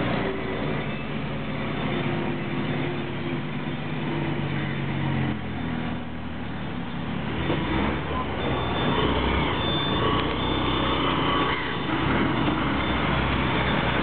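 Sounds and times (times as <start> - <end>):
diesel bus engine humming: 0.0 - 14.0.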